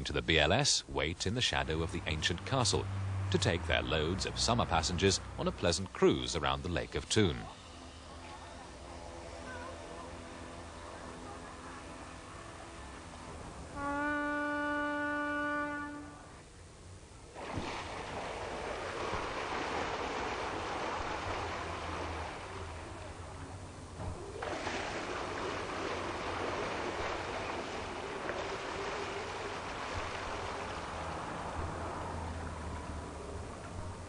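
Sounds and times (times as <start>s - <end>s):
low engine hum: 0.0s - 34.0s
water rushing: 0.0s - 34.0s.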